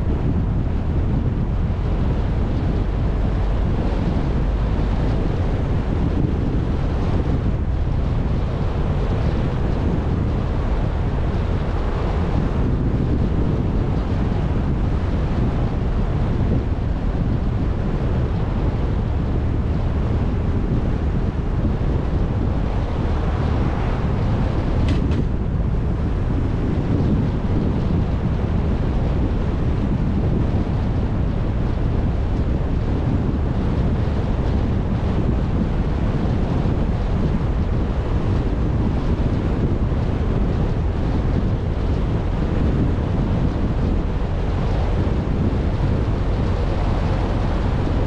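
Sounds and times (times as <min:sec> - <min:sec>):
car road noise: 0:00.0 - 0:48.0
wind buffeting microphone: 0:00.0 - 0:48.0.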